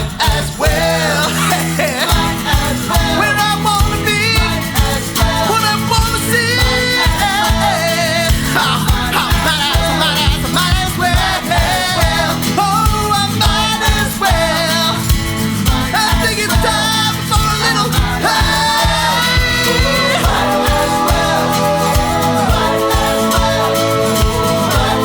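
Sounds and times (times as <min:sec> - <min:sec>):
person singing: 0:00.0 - 0:25.0
steady drum beat: 0:00.0 - 0:25.0.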